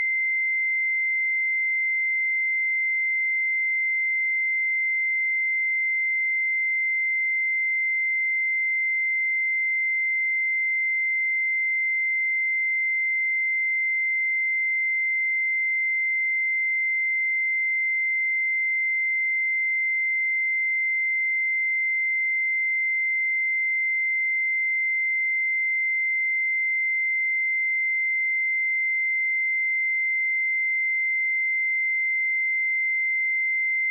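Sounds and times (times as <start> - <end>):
high-pitched sine tone: 0.0 - 33.9.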